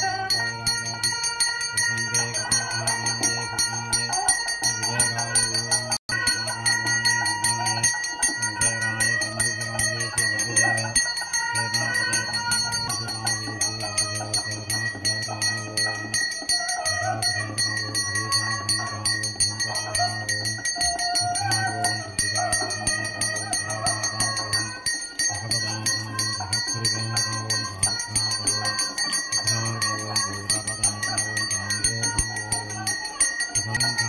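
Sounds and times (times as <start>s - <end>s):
hand bell ringing rapidly: 0.0s - 34.0s.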